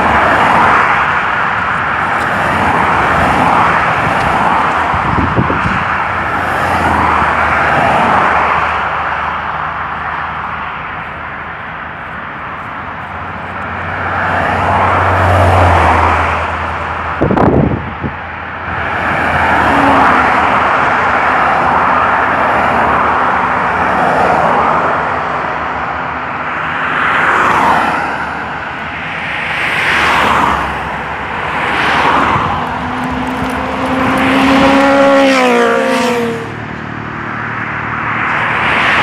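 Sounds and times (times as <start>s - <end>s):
cars passing on a road: 0.0s - 39.0s.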